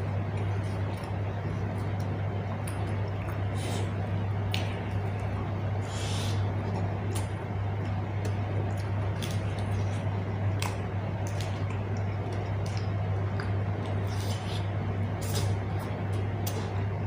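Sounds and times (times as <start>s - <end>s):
steady low hum: 0.0s - 17.0s
person chewing with lip smacks: 0.2s - 17.0s.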